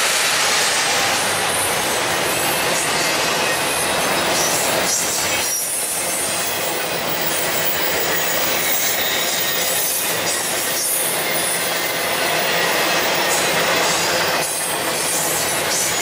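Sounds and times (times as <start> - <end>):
train wheels rolling on rail: 0.0 - 16.0
high wheel squeal: 1.2 - 16.0.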